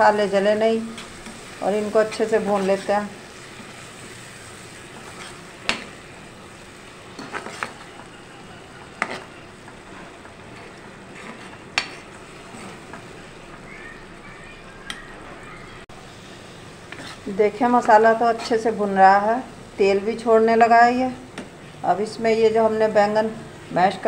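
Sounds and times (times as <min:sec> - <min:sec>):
masala sizzling in oil: 0:00.0 - 0:24.0.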